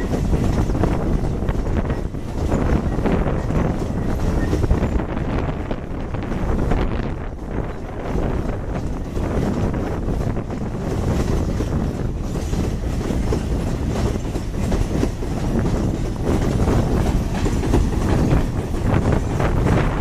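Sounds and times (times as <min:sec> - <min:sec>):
train wheels clattering over rail joints: 0:00.0 - 0:20.0.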